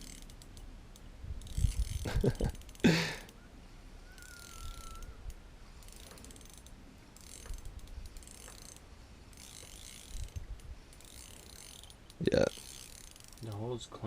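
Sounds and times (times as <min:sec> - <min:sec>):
fishing reel clicking: 0:00.0 - 0:03.4, 0:04.1 - 0:13.7.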